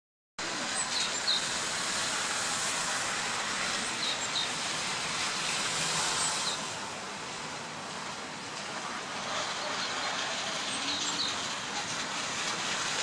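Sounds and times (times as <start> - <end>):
distant city traffic hiss: 0.4 - 13.0.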